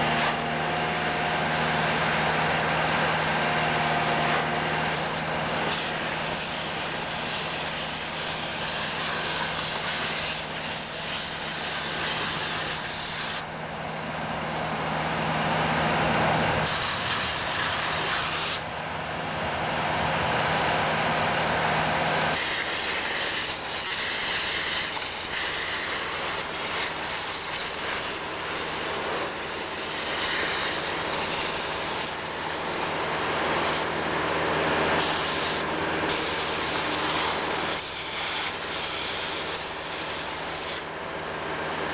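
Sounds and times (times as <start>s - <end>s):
low machine hum: 0.0s - 41.9s
vacuum excavator rushing air: 0.0s - 41.9s.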